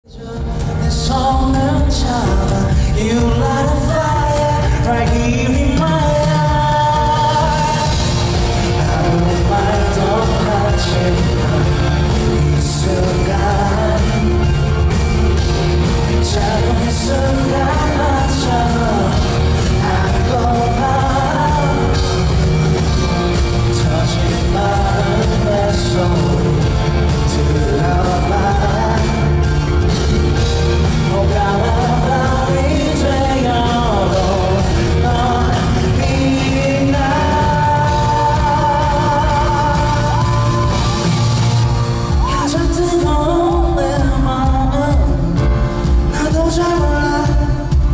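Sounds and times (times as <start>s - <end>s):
drums: 0.0s - 47.9s
man singing: 0.0s - 47.9s.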